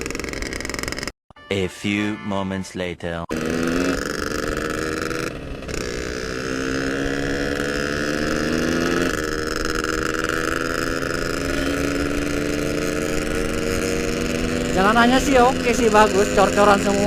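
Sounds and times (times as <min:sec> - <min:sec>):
two-stroke motorcycle engine: 0:00.0 - 0:01.2, 0:03.3 - 0:17.0.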